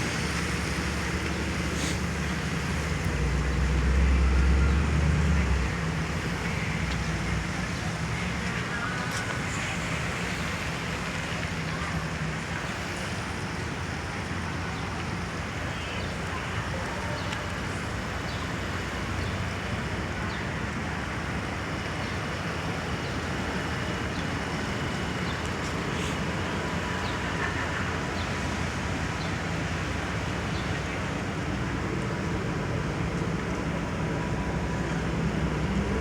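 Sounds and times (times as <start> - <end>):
passing vehicles rumbling: 0.0 - 36.0
rain hiss: 0.0 - 36.0
wet traffic: 0.0 - 36.0.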